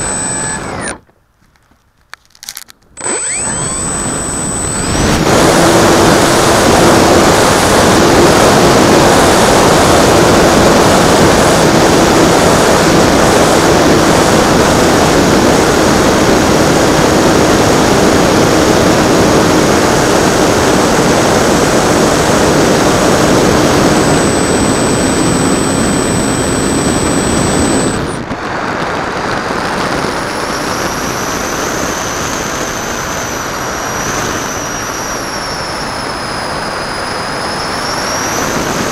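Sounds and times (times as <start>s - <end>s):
electric motor and propeller: 0.0s - 1.1s, 2.3s - 38.9s.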